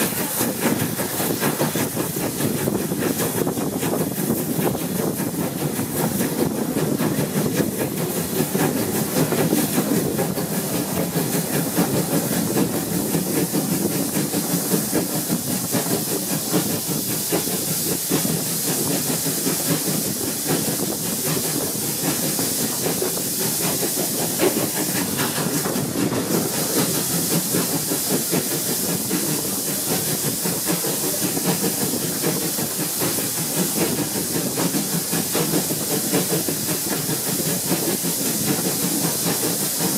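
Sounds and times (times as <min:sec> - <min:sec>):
steam locomotive hissing: 0:00.0 - 0:39.9
wheels rattling on track: 0:00.0 - 0:39.9.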